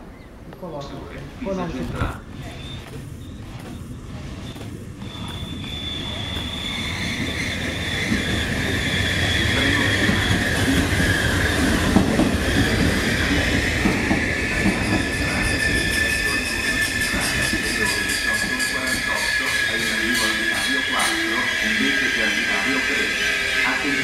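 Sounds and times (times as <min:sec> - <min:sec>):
train wheels rumbling and clacking: 0:01.3 - 0:24.0
train wheels squealing on rails: 0:02.4 - 0:24.0.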